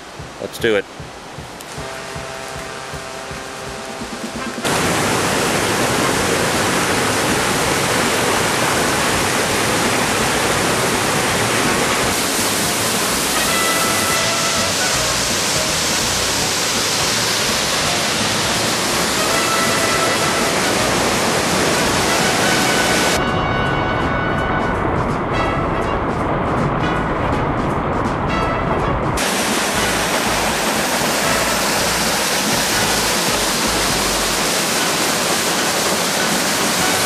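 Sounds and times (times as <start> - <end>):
waterfall rushing: 0.0 - 23.3, 29.2 - 37.0.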